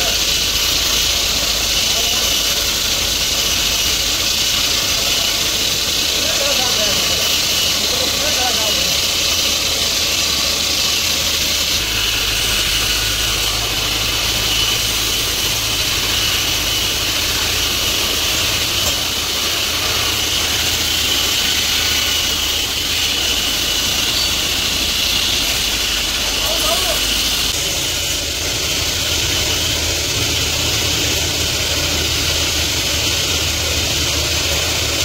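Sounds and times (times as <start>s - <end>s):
belt grinder grinding steel: 0.0s - 35.0s.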